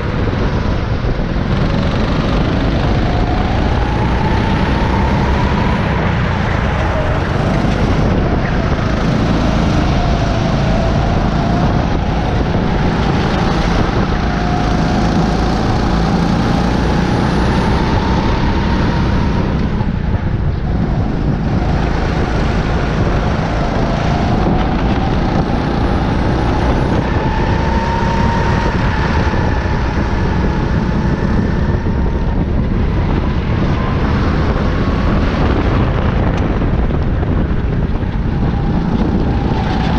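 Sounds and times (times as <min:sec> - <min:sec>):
go-kart engine racing: 0:00.0 - 0:39.9
wind on microphone: 0:00.0 - 0:39.9.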